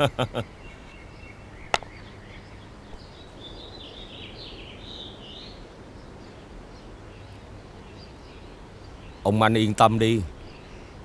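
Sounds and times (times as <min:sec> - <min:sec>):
birds twittering: 0:00.0 - 0:11.0
low outdoor background noise: 0:00.0 - 0:11.0.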